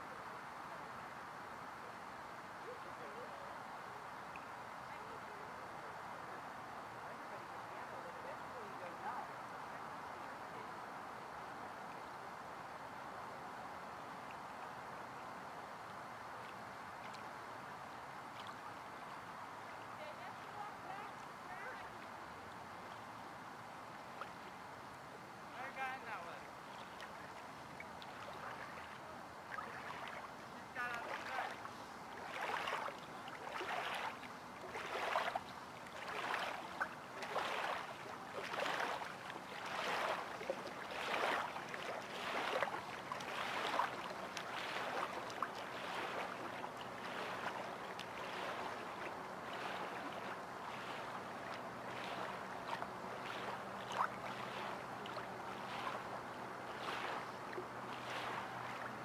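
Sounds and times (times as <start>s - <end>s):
small waves lapping on shore: 0.0s - 59.0s.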